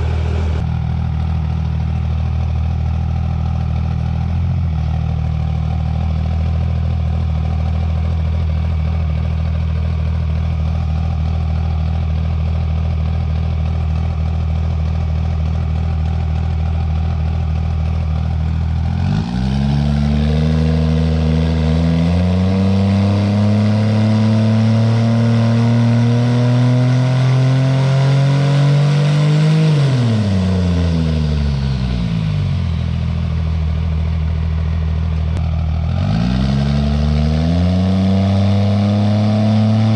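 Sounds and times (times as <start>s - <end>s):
diesel truck engine idling and revving: 0.0s - 39.9s.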